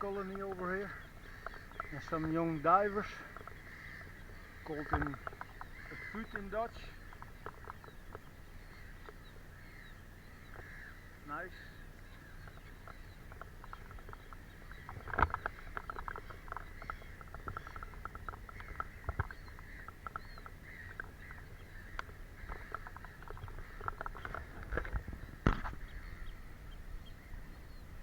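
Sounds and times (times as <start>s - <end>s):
water birds chattering: 0.0s - 28.0s.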